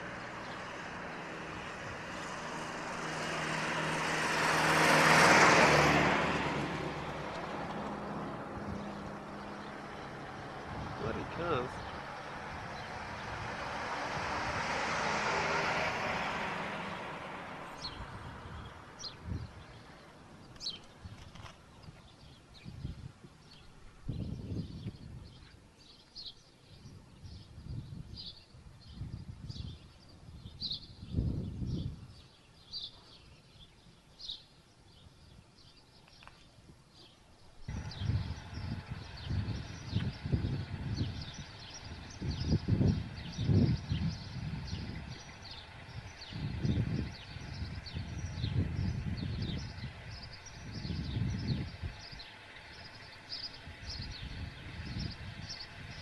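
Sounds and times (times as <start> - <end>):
small birds chirping: 0.0 - 3.6, 7.2 - 14.8, 17.7 - 56.0.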